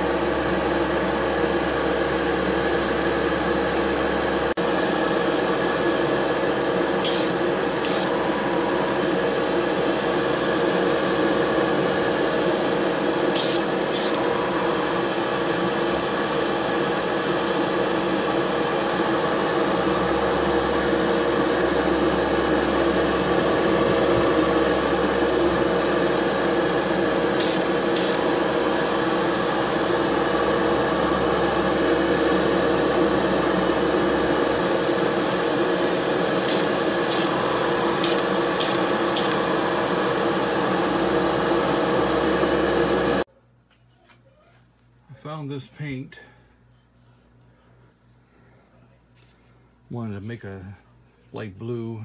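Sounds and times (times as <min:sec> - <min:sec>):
motor humming: 0:00.0 - 0:43.2.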